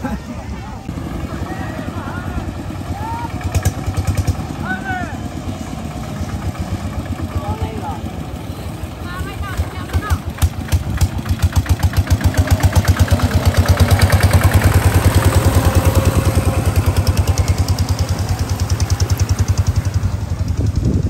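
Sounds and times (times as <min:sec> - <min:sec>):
small engine chugging: 0:00.8 - 0:21.0.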